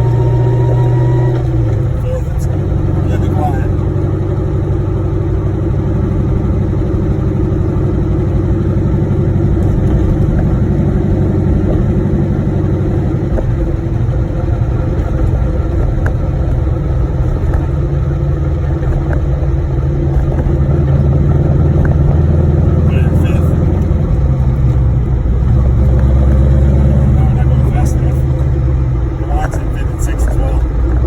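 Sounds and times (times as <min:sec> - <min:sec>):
car engine running: 0:00.0 - 0:31.0
transmission gear whine: 0:00.0 - 0:31.0.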